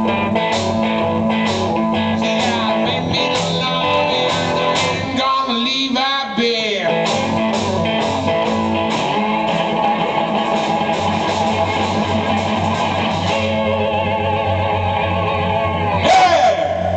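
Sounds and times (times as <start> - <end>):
blues-rock band playing: 0.0 - 16.9
pulsing bass: 0.0 - 16.9.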